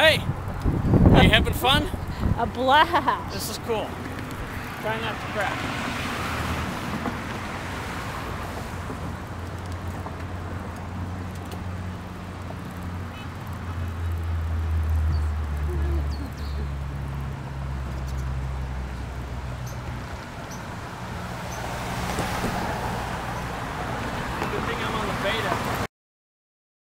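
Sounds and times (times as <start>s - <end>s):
wind and road noise: 0.0s - 25.9s.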